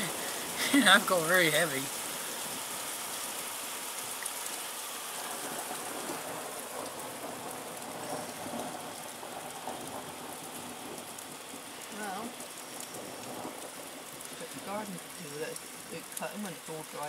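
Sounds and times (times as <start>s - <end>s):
heavy rain on pavement and hedges: 0.0s - 17.0s.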